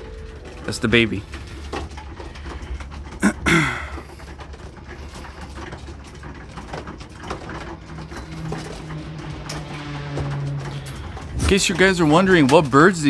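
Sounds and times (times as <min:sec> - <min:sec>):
pigeons pecking grain: 0:00.0 - 0:13.0.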